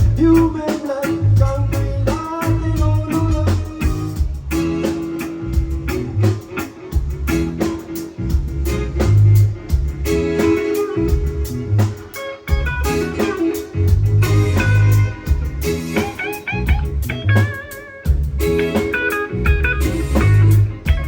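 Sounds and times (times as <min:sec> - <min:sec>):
guitar melody: 0:00.0 - 0:21.0
reggae band playing: 0:00.0 - 0:21.0.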